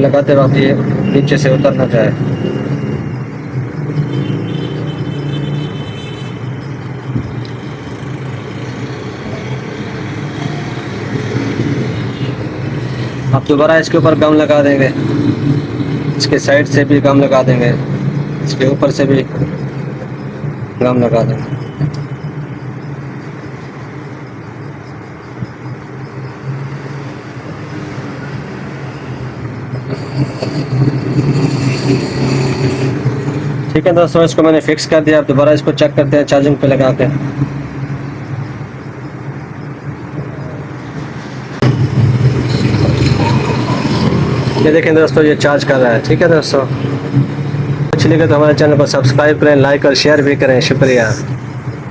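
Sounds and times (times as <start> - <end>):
motor vehicle engine humming: 0.0 - 33.8, 35.2 - 51.9
road traffic rumble: 0.0 - 51.9.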